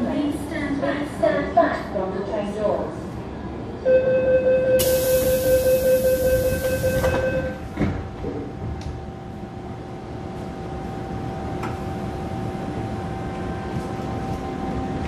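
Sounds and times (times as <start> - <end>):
train rumbling in tunnel: 0.0 - 15.0.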